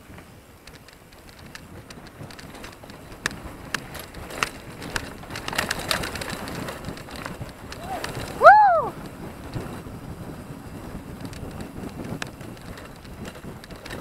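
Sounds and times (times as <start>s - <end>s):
bike clicks and rattles: 0.0s - 14.0s
bike tyres on dirt: 0.0s - 14.0s.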